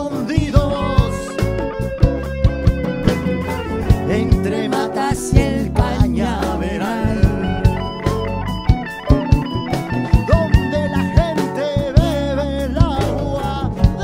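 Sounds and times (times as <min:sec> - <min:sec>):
guitar line: 0:00.0 - 0:14.0
latin fusion band playing: 0:00.0 - 0:14.0.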